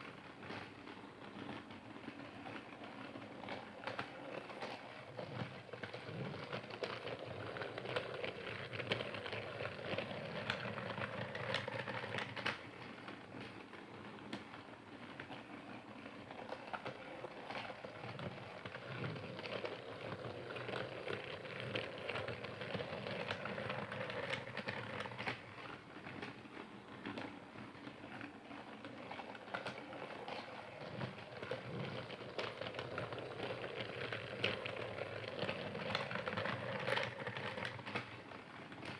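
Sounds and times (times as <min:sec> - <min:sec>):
toy train rattling clatter: 0:00.0 - 0:38.9.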